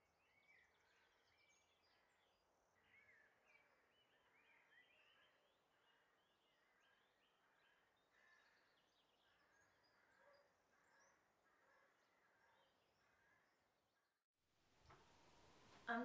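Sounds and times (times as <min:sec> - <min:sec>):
faint bird chirps: 0:00.0 - 0:14.1.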